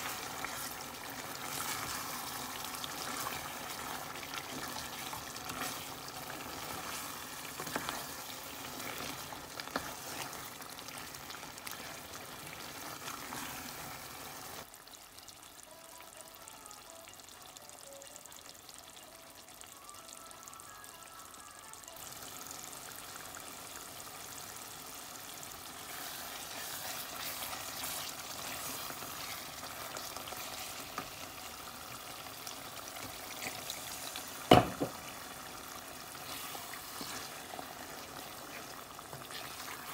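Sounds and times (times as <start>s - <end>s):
curry sizzling in a pan: 0.0s - 39.9s.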